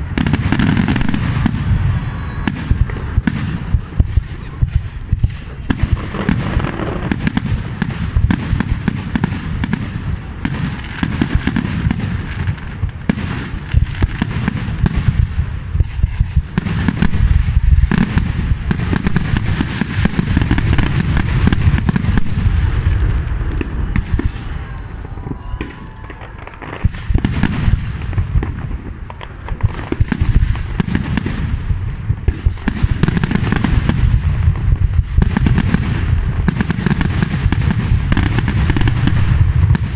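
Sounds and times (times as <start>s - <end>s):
firework shell bursts and crackling: 0.0s - 39.9s.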